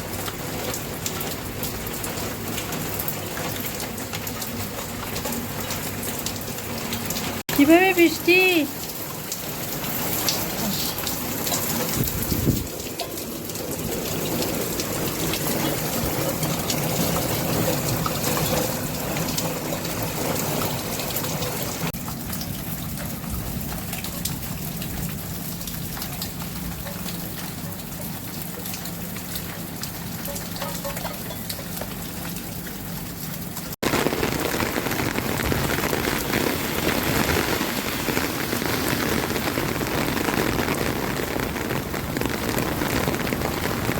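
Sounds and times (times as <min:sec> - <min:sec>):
rain pattering on surfaces: 0:00.0 - 0:43.9.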